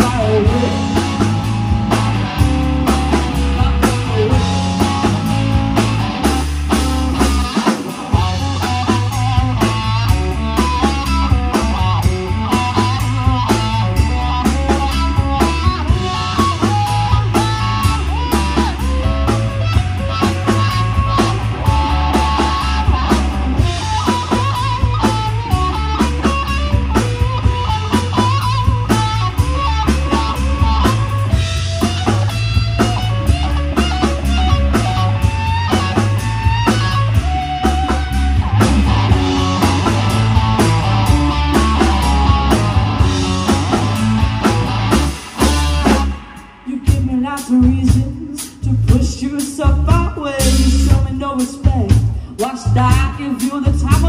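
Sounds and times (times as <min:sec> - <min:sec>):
electric guitar lead: 0:00.0 - 0:49.0
bass guitar: 0:00.0 - 0:54.0
drum kit beat: 0:00.0 - 0:54.0.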